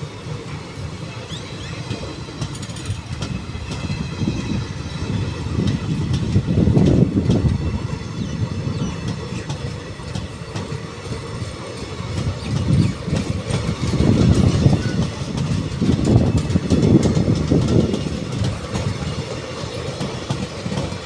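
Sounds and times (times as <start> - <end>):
train coaches rumbling past: 0.0 - 21.0
wheels clacking over rail joints: 1.1 - 7.9, 8.7 - 21.0.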